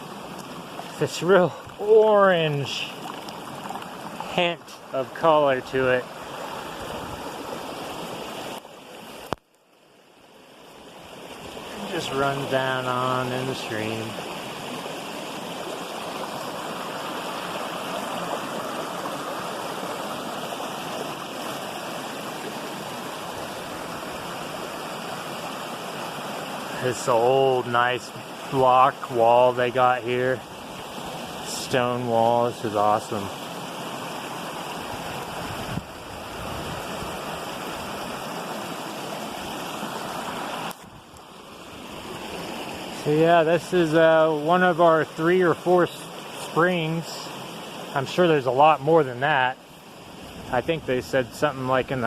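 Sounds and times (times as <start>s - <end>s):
flowing water splashing: 0.0s - 52.0s.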